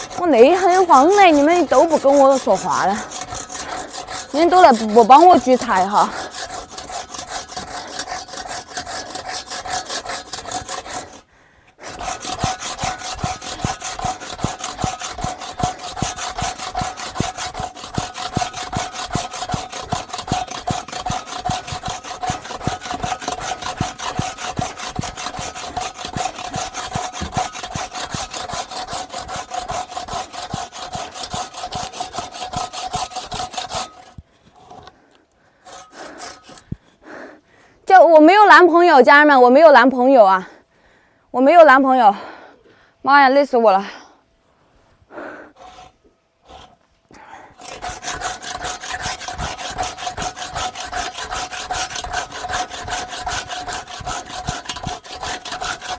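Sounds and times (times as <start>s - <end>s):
saw cutting through wood: 0.0s - 37.2s, 45.2s - 46.8s, 47.5s - 55.9s.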